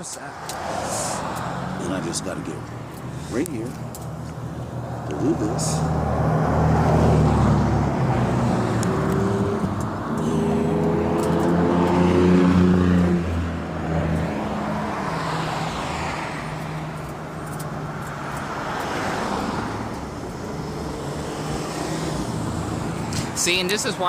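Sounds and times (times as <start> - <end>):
cars passing by: 0.0 - 24.0
vehicle engine humming: 0.0 - 24.0.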